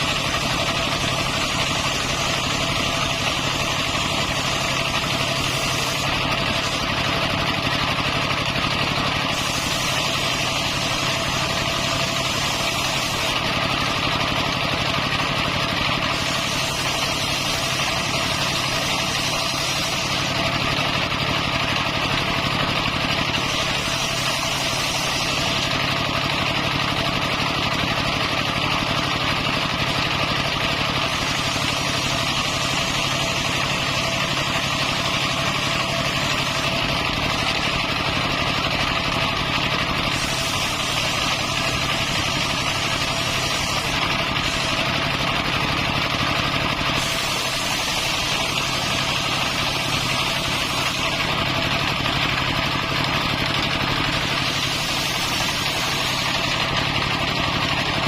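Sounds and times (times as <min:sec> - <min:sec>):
circular saw motor running: 0:00.0 - 0:58.0.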